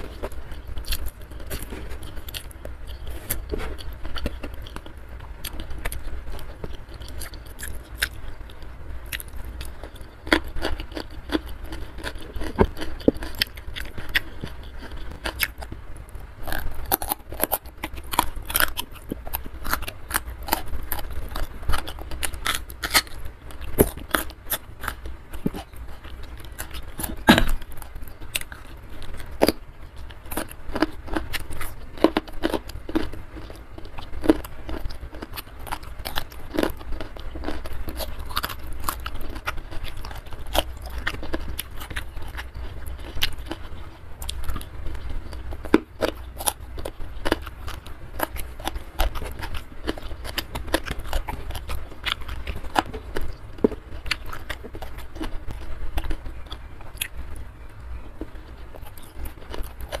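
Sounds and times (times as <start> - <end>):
person chewing: 0.0 - 60.0.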